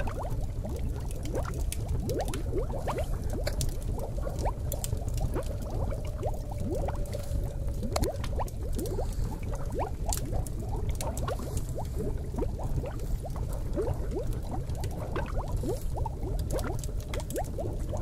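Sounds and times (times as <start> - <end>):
bubbles popping: 0.0 - 7.1, 7.7 - 18.0
low steady rumble: 0.0 - 18.0.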